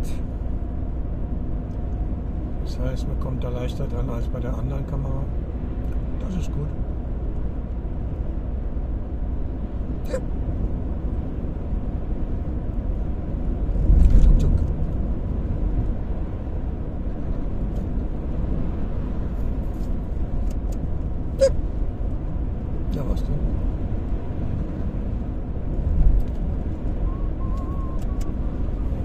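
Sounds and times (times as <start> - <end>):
road and engine rumble in car: 0.0 - 29.0.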